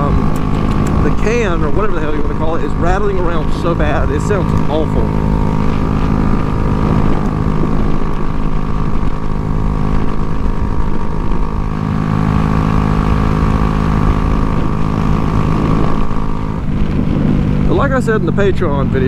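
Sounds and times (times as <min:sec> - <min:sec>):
exhaust rattling: 0:00.0 - 0:19.0
motorcycle engine running: 0:00.0 - 0:19.0.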